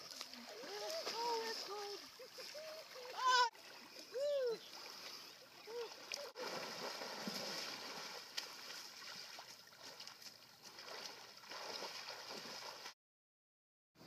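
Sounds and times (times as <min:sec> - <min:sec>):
water splashing from wading: 0:00.0 - 0:12.9.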